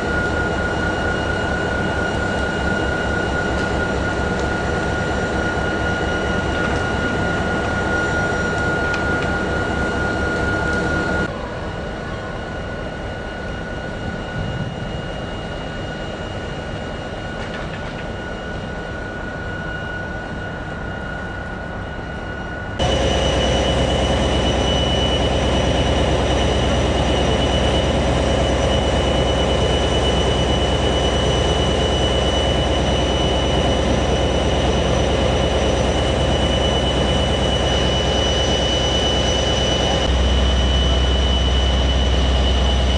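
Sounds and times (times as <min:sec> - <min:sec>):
locomotive running: 0:00.0 - 0:12.8, 0:13.8 - 0:42.9.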